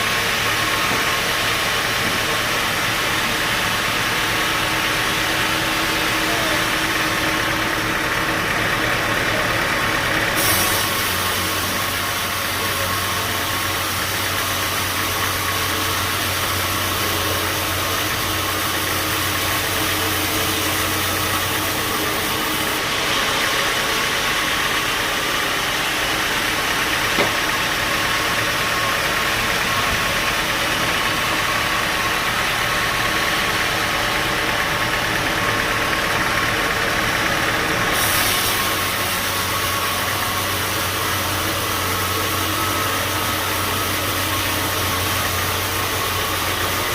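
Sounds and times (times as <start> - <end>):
band sawmill machinery running: 0.0 - 46.9.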